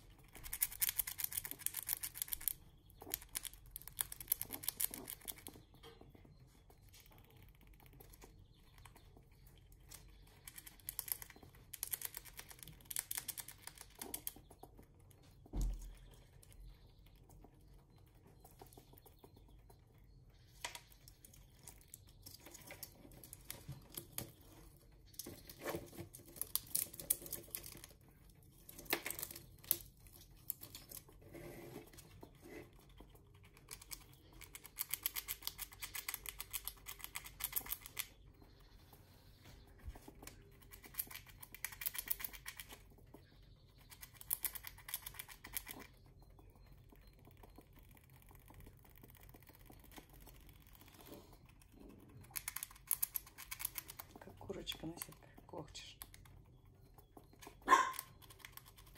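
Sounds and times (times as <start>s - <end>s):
squirrel cracking nut shells: 0.0s - 15.2s, 20.4s - 31.2s, 31.9s - 38.5s, 40.0s - 58.9s.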